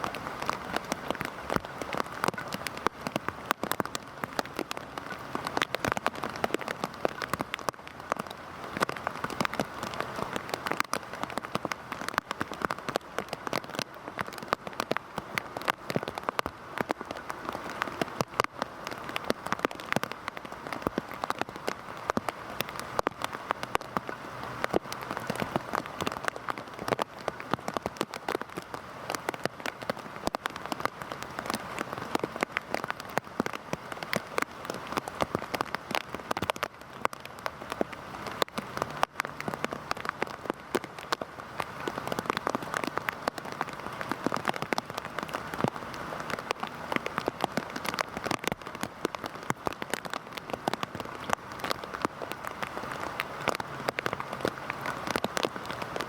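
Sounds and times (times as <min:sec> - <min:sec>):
heavy rain falling: 0:00.0 - 0:56.0
raindrops ticking: 0:00.0 - 0:56.0.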